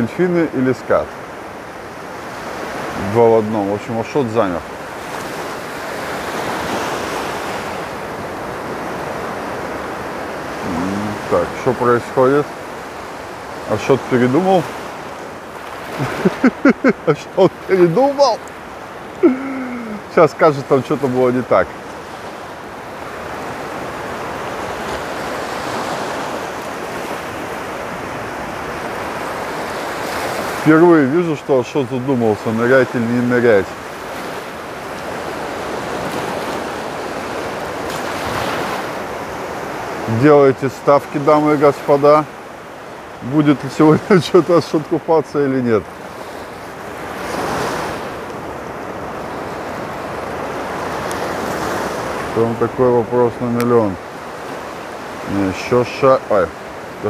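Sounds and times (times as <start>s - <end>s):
small waves breaking: 0.0s - 57.0s.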